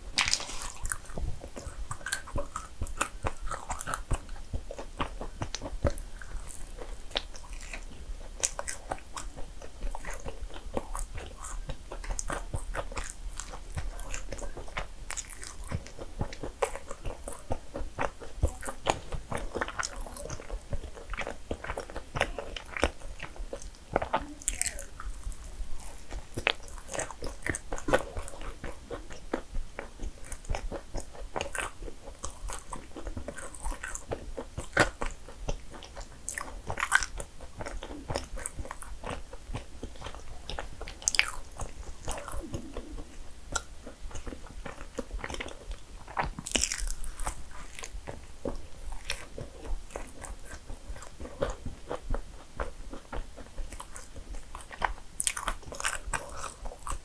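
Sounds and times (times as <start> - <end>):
person chewing: 0.0 - 57.0.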